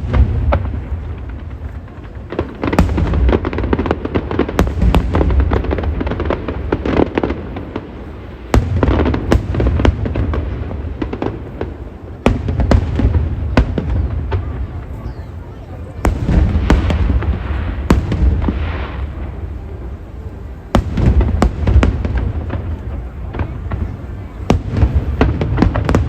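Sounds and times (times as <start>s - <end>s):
continuous rumble: 0.0s - 26.0s
fireworks booms and cracks: 0.0s - 26.0s.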